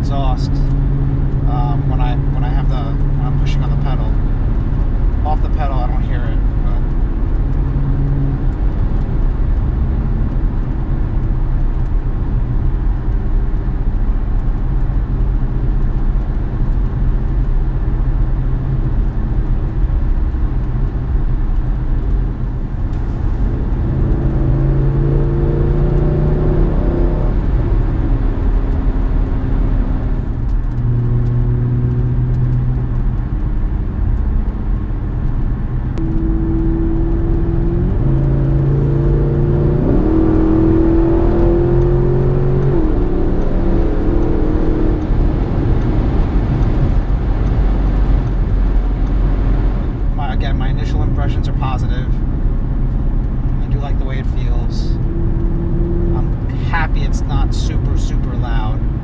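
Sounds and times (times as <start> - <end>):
low exhaust drone: 0.0 - 59.0
road and engine noise: 0.0 - 59.0.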